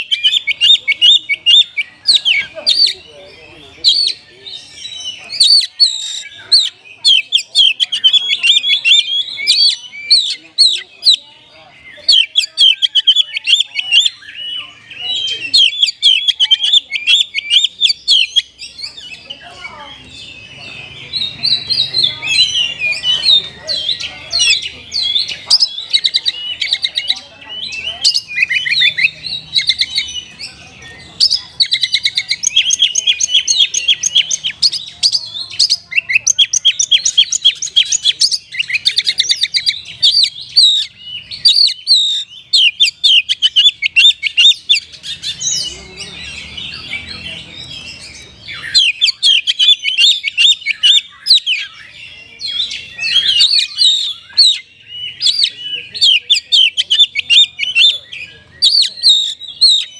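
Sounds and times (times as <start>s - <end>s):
bird singing rapid trills: 0.0s - 59.9s.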